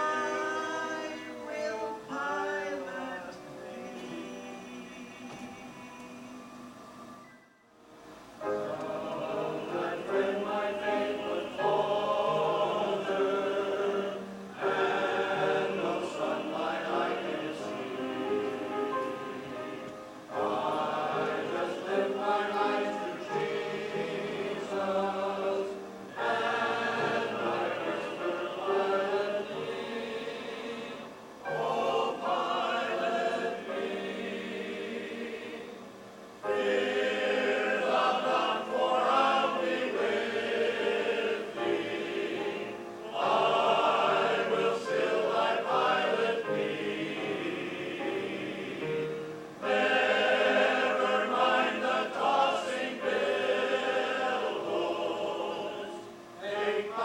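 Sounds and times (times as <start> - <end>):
choir singing a hymn: 0.0 - 7.1, 8.0 - 57.0.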